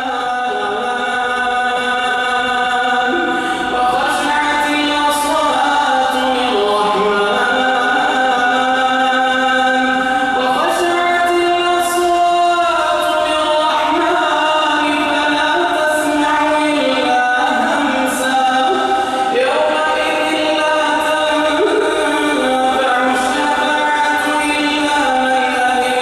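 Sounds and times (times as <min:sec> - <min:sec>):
man chanting melodic recitation: 0:00.0 - 0:26.0.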